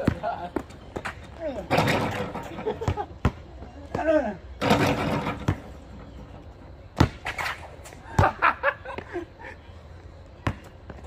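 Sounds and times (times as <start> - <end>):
basketball bouncing on asphalt: 0.0 - 8.4, 10.0 - 11.0.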